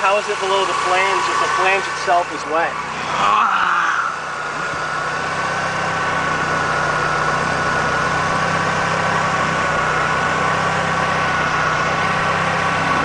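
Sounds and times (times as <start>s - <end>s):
car engine idling: 0.0s - 13.0s
high whine: 0.0s - 13.0s.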